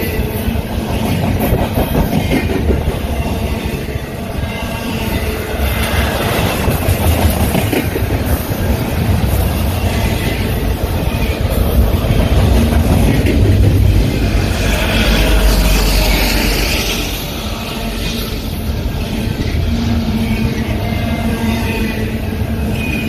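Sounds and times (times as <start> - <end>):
freight train cars rumbling past: 0.0 - 23.0.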